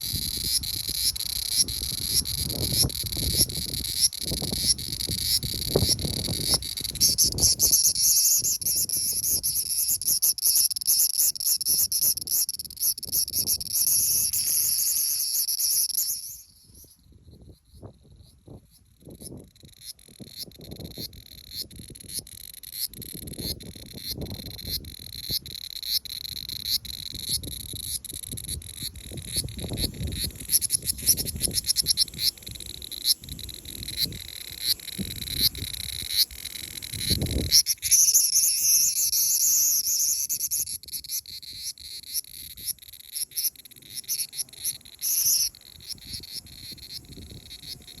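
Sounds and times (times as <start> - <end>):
cicada harsh squawking buzz: 0.0 - 17.8, 19.0 - 48.0
cicadas singing in pulsing chorus: 0.0 - 48.0.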